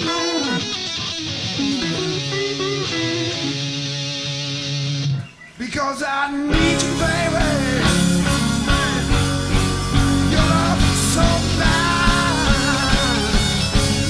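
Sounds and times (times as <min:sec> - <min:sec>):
rock band music: 0:00.0 - 0:05.3, 0:06.4 - 0:14.0
electric guitar lead: 0:00.0 - 0:05.6, 0:06.5 - 0:14.0.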